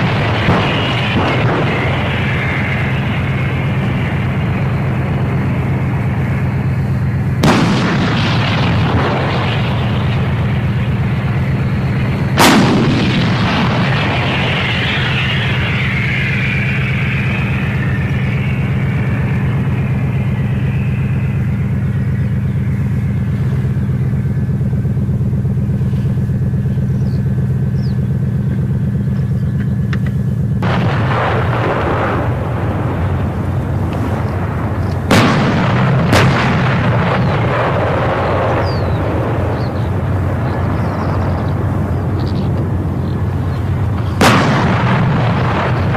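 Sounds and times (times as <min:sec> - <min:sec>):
sharp gun reports: 0:00.0 - 0:42.1
diesel engine idling: 0:00.0 - 0:45.9
rough engine rumble: 0:00.0 - 0:45.9.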